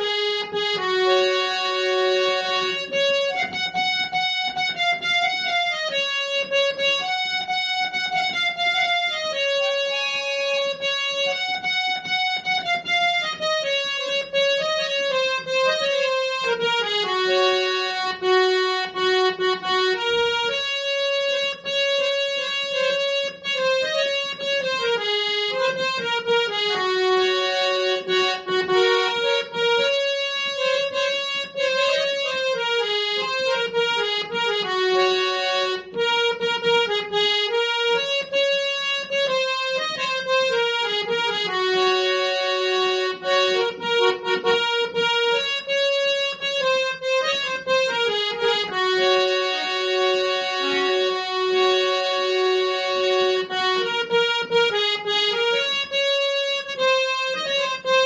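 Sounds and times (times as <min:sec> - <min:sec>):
electronic keyboard melody: 0:00.0 - 0:58.0.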